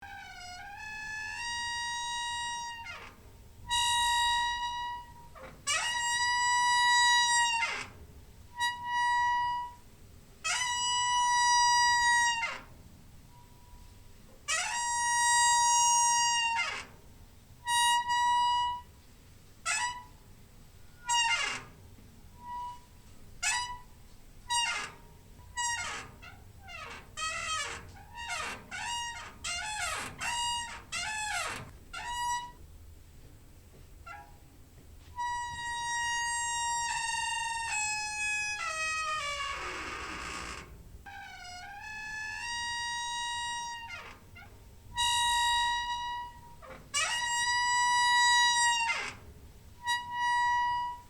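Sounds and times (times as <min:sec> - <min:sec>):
door hinge squeaking: 0:00.0 - 0:09.8, 0:10.4 - 0:19.0, 0:19.6 - 0:20.2, 0:20.8 - 0:32.6, 0:34.0 - 0:34.5, 0:35.1 - 0:51.0.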